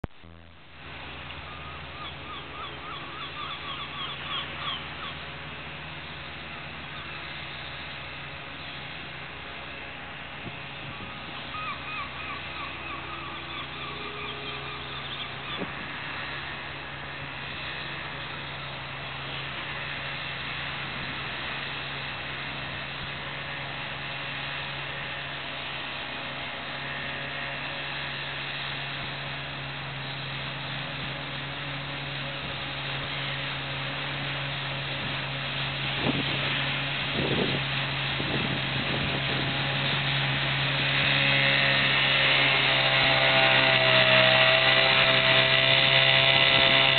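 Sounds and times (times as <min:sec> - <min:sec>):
outboard motor droning: 0:00.0 - 0:46.9.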